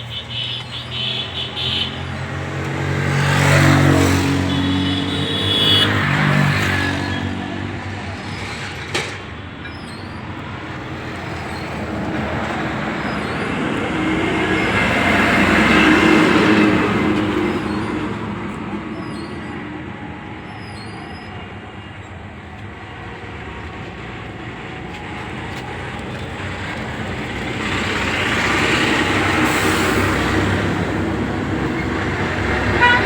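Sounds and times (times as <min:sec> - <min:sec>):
heavy vehicle engines running: 0:00.0 - 0:33.0.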